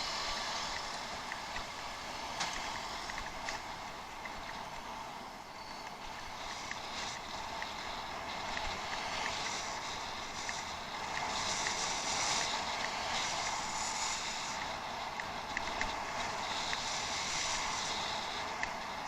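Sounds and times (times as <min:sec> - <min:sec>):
bicycle tyres rolling on dirt: 0:00.0 - 0:19.0
faint light ticks: 0:00.7 - 0:01.7, 0:02.4 - 0:04.9, 0:05.5 - 0:19.0.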